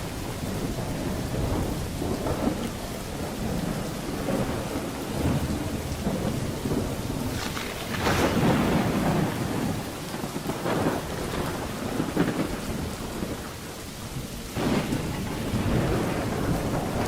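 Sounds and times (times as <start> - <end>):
steady rain: 0.0 - 17.0
thunder rumbling: 0.0 - 17.0.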